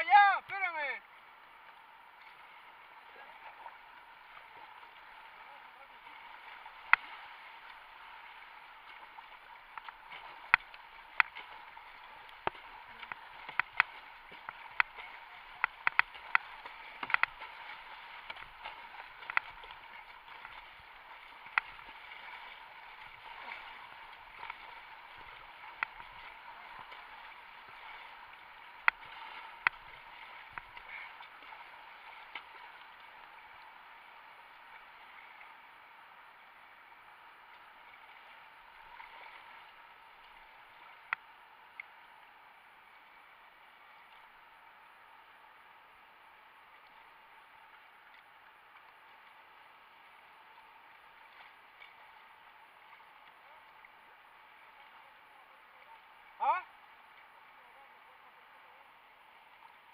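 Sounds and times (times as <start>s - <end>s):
paddle blades splashing: 0.0s - 59.9s
river water rushing: 0.0s - 59.9s.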